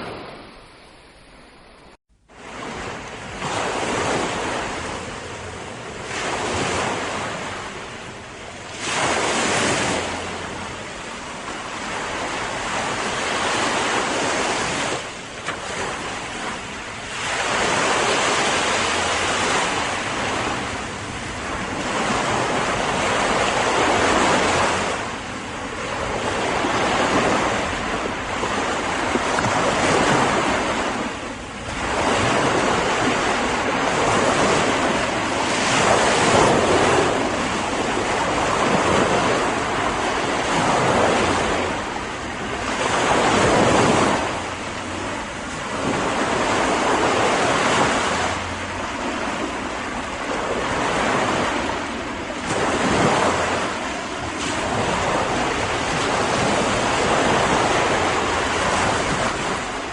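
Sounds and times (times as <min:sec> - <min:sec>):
sea waves breaking on beach: 0:00.0 - 0:59.9
wind: 0:00.0 - 0:59.9.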